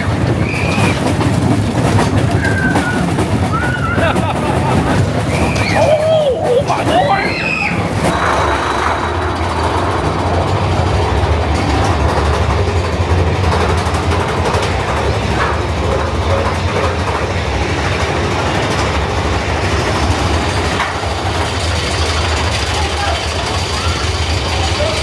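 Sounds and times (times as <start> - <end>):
roller coaster rumbling on track: 0.0 - 25.0
deep low drone: 1.2 - 25.0.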